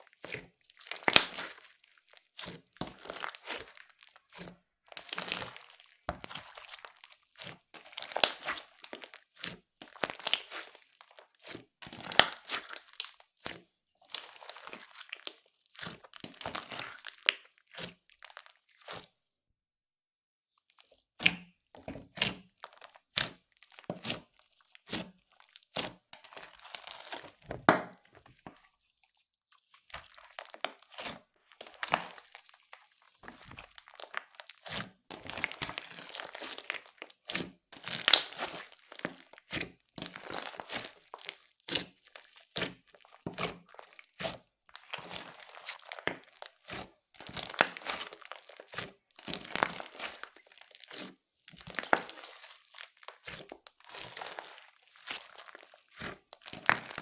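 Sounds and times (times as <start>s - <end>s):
slime crackling and popping: 0.1s - 13.5s, 14.1s - 19.0s, 22.1s - 28.1s, 29.8s - 57.0s.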